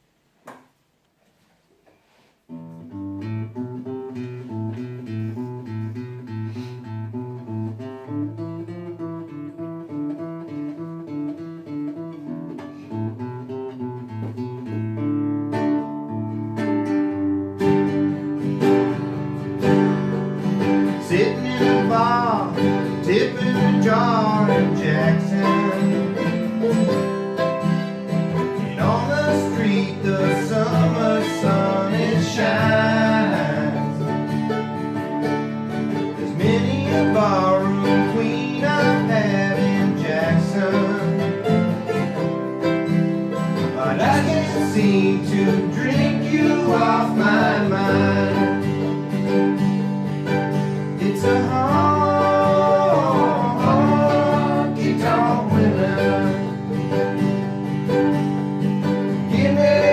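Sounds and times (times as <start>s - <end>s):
acoustic guitar playing country music: 2.0s - 59.9s.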